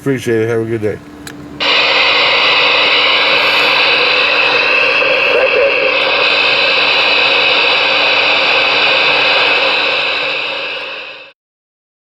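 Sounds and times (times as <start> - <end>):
radio static hiss: 1.6 - 11.3.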